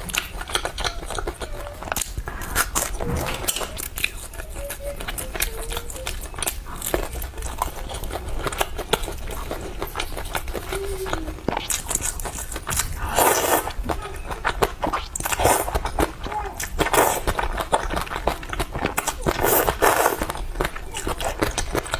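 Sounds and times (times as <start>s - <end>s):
chewing crunchy fried food: 0.0s - 21.9s.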